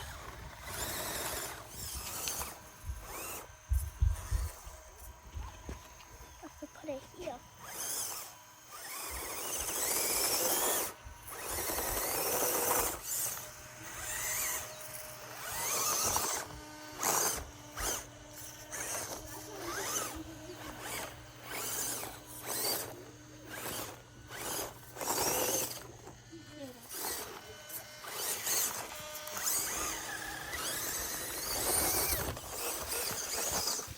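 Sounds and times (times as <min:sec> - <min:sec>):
small electric motor whining: 0:00.0 - 0:33.9.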